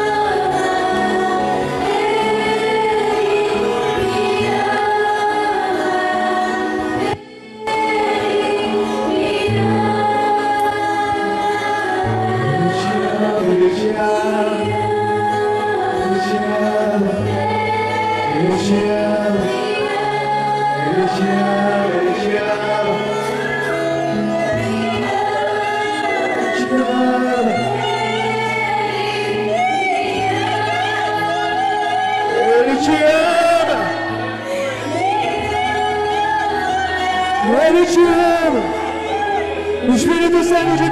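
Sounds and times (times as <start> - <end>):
choir singing gospel: 0.0 - 40.9.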